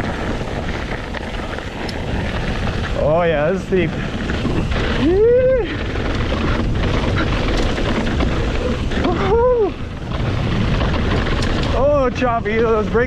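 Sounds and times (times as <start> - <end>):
bike rattling and knocking: 0.0 - 13.0
tyres rumbling on dirt: 0.0 - 13.0
wind on microphone: 0.0 - 13.0.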